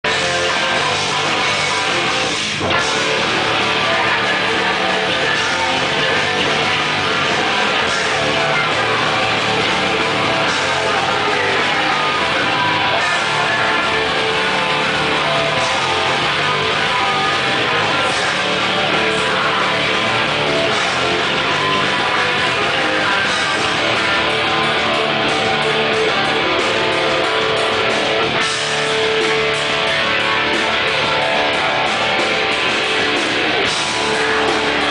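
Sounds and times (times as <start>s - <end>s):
hardcore band playing live: 0.0s - 34.9s.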